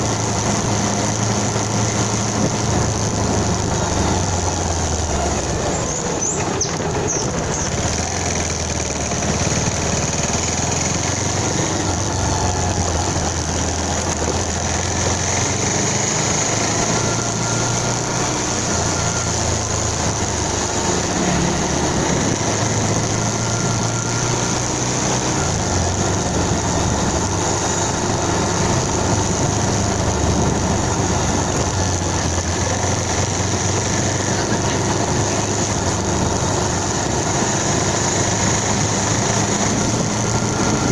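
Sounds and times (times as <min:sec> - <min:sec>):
motorcycle engine humming: 0:00.0 - 0:40.9
wind and road noise: 0:00.0 - 0:40.9.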